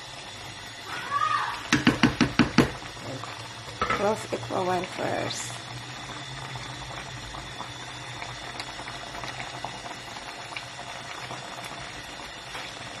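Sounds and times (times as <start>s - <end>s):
chili bubbling in a pot: 0.0s - 13.0s.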